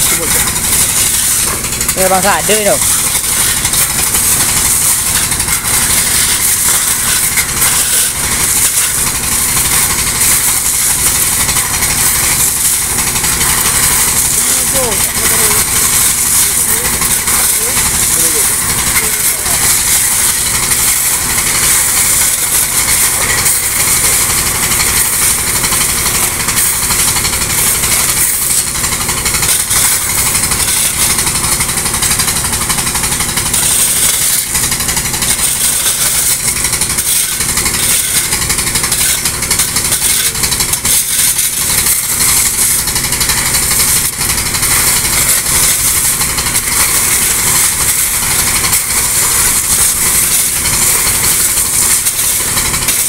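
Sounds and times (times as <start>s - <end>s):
gravel and water pouring: 0.0s - 53.0s
pump engine running: 0.0s - 53.0s
shovels scraping stones: 0.0s - 53.0s.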